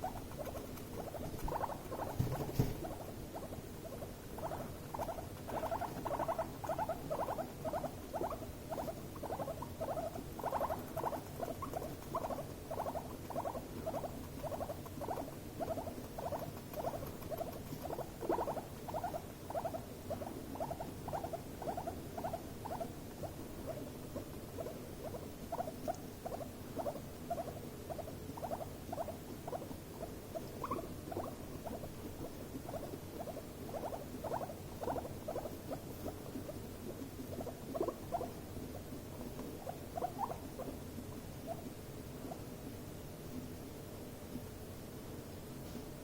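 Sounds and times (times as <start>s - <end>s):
guinea pig buzzing calls: 0.0s - 40.8s, 41.4s - 42.5s.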